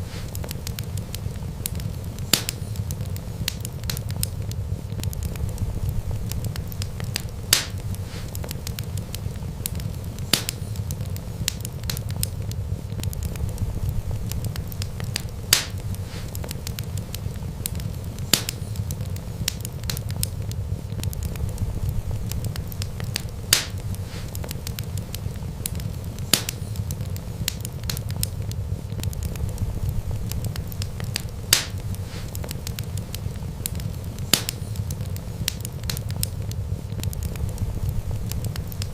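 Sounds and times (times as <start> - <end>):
sharp pops from fire: 0.0 - 38.9
wood fire crackling: 0.0 - 38.9.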